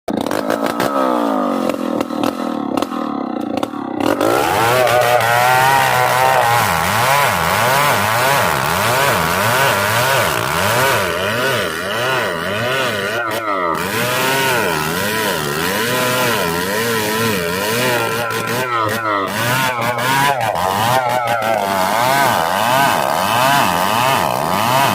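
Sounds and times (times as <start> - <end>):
chainsaw cutting log: 0.1 - 24.9.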